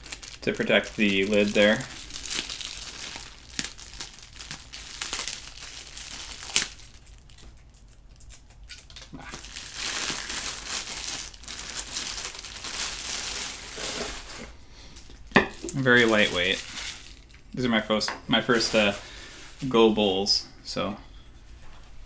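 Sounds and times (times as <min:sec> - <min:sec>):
bubble wrap crinkling: 0:00.0 - 0:20.2.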